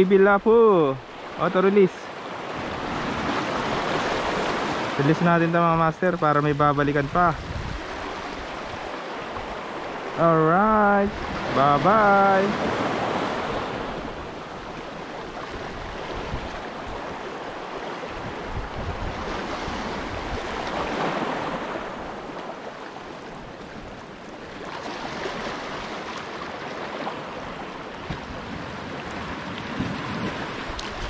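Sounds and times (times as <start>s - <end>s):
waves washing over rocks: 0.0s - 31.0s.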